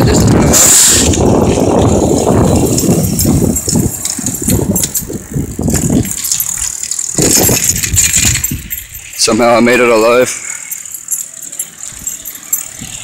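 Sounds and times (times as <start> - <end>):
wind buffeting microphone: 0.0 - 10.3, 11.8 - 13.0
bicycle rattling: 0.0 - 13.0.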